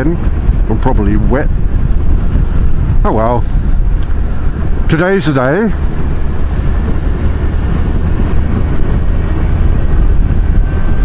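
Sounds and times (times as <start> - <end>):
motorcycle engine drone: 0.0 - 11.0
wind and road noise: 0.0 - 11.0.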